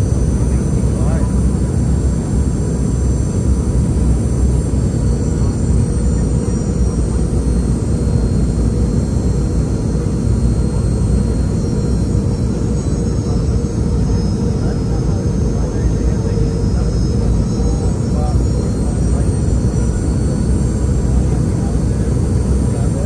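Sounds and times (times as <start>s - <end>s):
airliner cabin roar: 0.0s - 23.0s
faint high engine whine: 0.0s - 23.0s.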